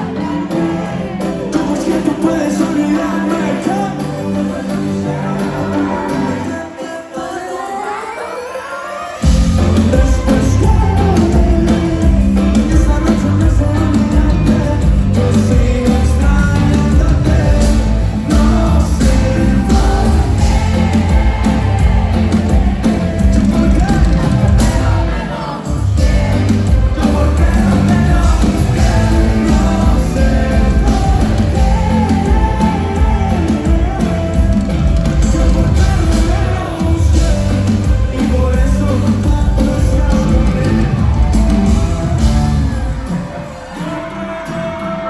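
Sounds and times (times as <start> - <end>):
electric guitar: 0.0 - 45.0
live pop-rock band playing: 0.0 - 45.0
person singing: 0.0 - 45.0.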